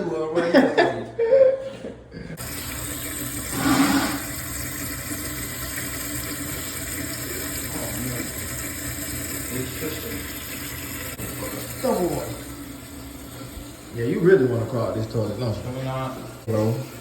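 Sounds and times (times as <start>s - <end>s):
water running into toilet: 2.4s - 17.0s.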